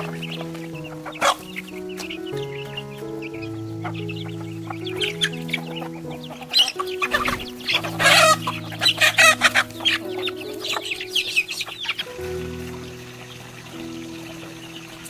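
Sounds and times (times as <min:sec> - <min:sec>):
chickens clucking: 0:00.0 - 0:15.0
music with low notes: 0:00.0 - 0:15.0.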